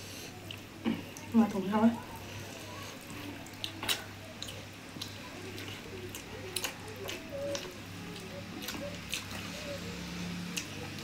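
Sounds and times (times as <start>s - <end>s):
chewing: 0.3s - 1.3s, 2.1s - 11.0s.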